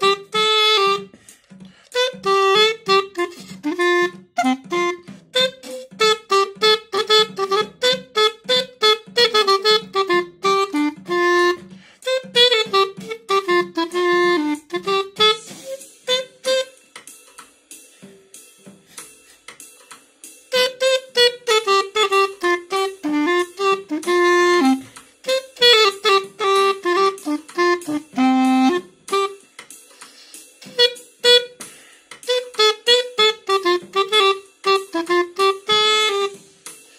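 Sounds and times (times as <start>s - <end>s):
clarinet playing short notes: 0.0s - 1.2s, 1.9s - 16.8s, 20.5s - 29.4s, 30.6s - 31.7s, 32.3s - 36.4s
steady drum beat: 0.0s - 36.9s.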